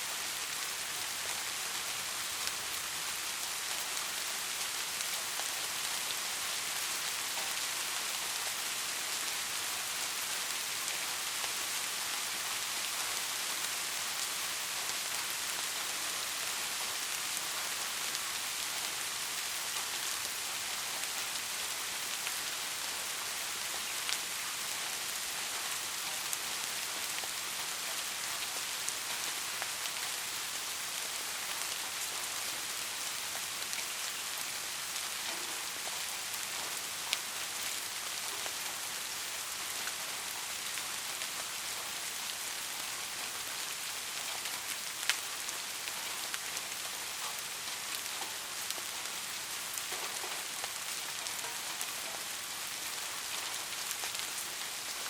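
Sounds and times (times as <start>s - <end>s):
soft rain hiss: 0.0s - 55.0s.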